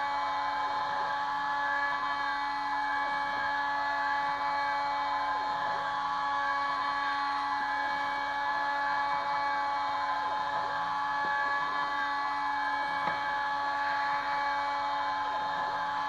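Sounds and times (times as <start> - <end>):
cnc spindle whining: 0.0 - 16.0.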